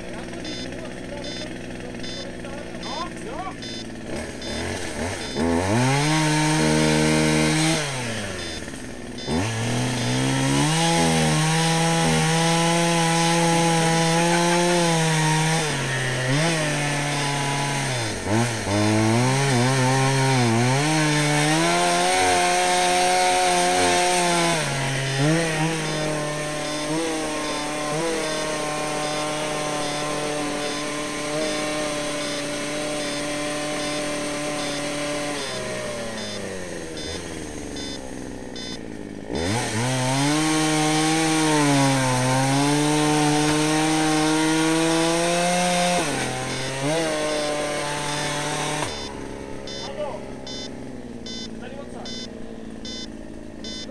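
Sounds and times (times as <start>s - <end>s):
chainsaw cutting into tree trunk: 0.0s - 53.9s.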